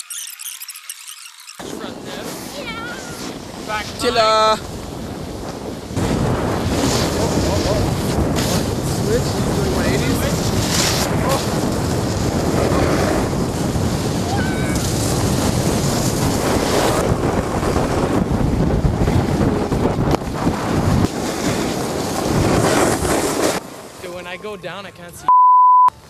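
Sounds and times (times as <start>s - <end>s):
wind buffeting microphone: 1.6s - 24.0s
snowboards sliding over snow: 1.6s - 24.5s.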